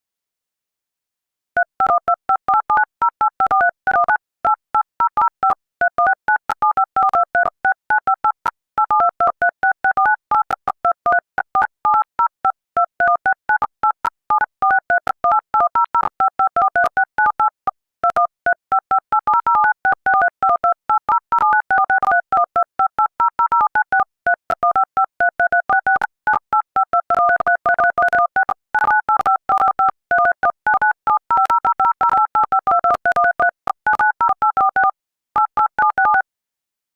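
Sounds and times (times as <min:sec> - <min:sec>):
touch-tone keypad beeps: 0:01.6 - 0:36.3.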